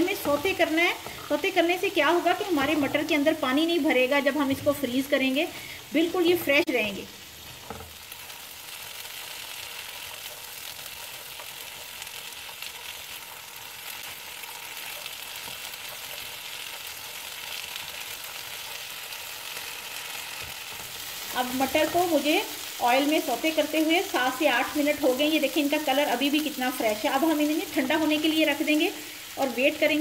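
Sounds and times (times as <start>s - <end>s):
peas sizzling in oil: 0.0s - 30.0s.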